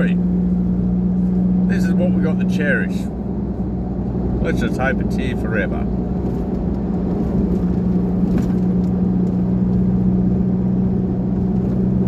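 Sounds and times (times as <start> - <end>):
vehicle engine and tyres droning: 0.0 - 12.0.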